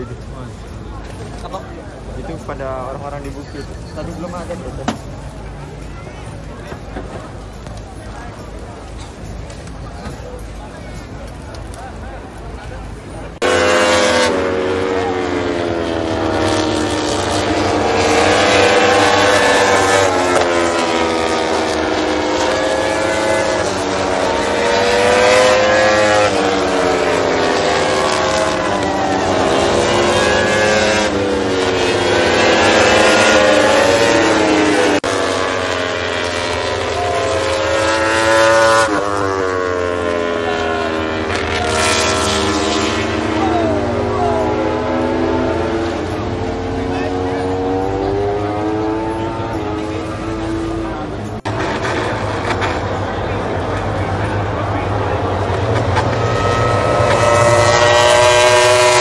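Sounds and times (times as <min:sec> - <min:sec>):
racing motorcycles passing: 0:00.0 - 0:59.0.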